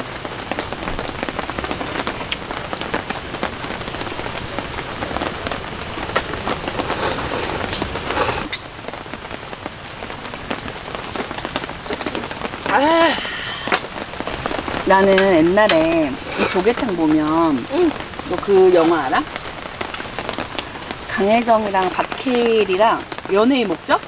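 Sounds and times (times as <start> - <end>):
raindrops ticking: 0.0 - 24.0
steady rain falling: 0.0 - 24.0.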